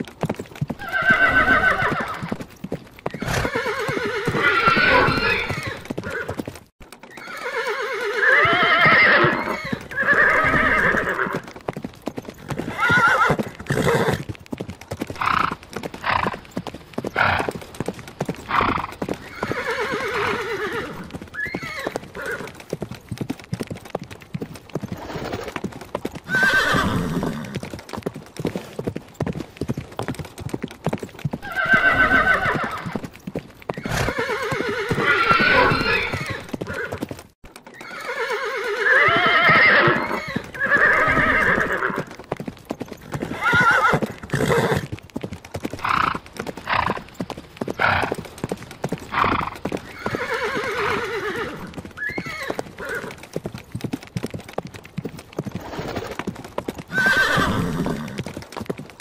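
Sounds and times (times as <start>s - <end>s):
hooves clip-clopping on hard ground: 0.0s - 59.0s
horses whinnying: 0.6s - 14.4s, 15.0s - 22.8s, 24.7s - 27.8s, 31.3s - 33.1s, 33.7s - 45.0s, 45.7s - 53.4s, 55.5s - 58.4s.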